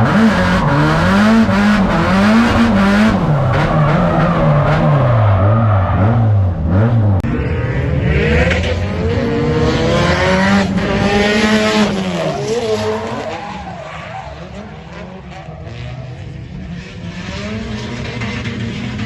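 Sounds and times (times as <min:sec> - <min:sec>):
car engine revving hard: 0:00.0 - 0:13.4, 0:14.4 - 0:19.0.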